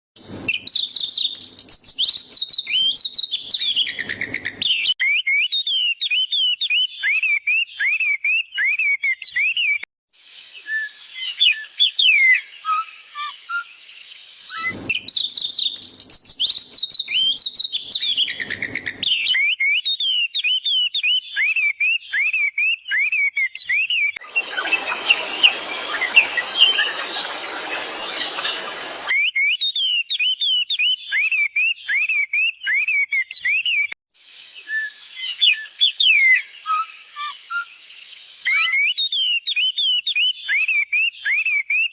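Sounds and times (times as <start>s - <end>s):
bird chirping: 0.2s - 41.9s.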